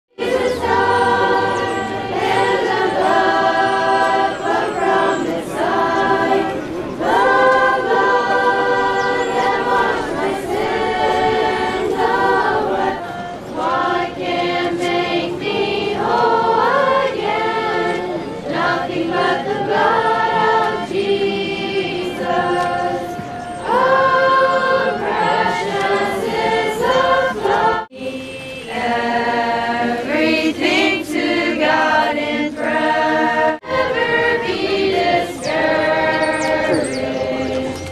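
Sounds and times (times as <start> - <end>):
group singing unaccompanied: 0.1 - 37.9.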